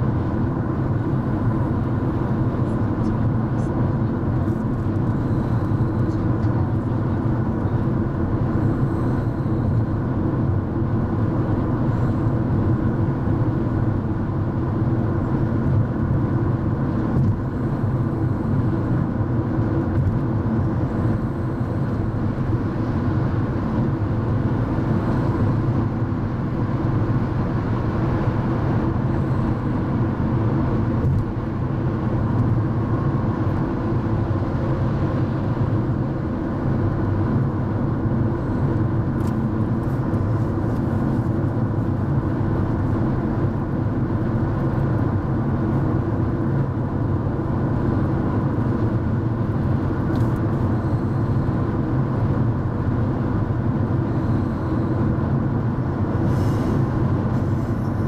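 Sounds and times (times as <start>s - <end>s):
car cabin road drone: 0.0s - 58.0s.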